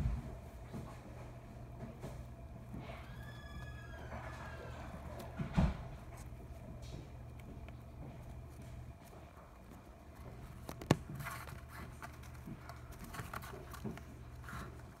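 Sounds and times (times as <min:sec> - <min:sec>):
low steady hum: 0:00.0 - 0:15.0
rabbits rustling and nibbling: 0:00.0 - 0:15.0.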